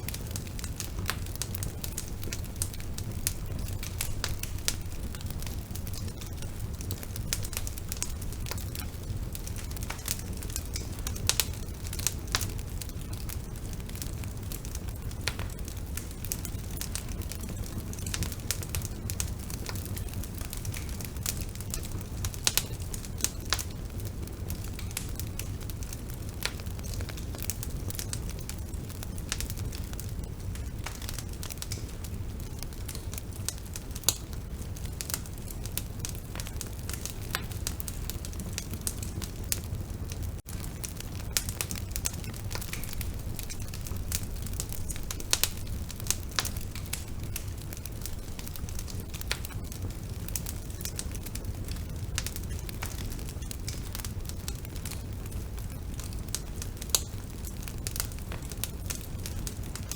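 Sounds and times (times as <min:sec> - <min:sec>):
bonfire flames rumbling: 0:00.0 - 0:59.9
burning wood crackling: 0:00.0 - 0:59.9.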